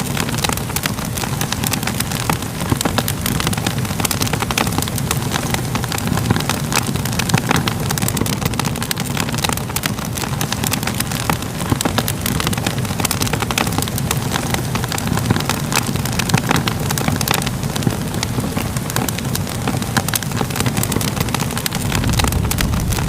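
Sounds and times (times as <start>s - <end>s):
fire crackling and popping: 0.0s - 23.0s
low fire roar: 0.0s - 23.0s.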